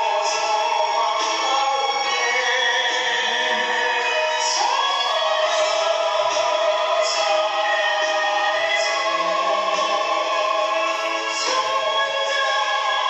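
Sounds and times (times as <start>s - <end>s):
gospel worship song: 0.0s - 13.0s.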